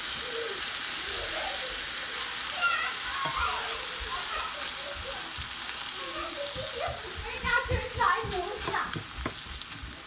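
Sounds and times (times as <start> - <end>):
meat sizzling in a skillet: 0.0 - 10.0
spatula stirring in a pan: 0.0 - 10.0.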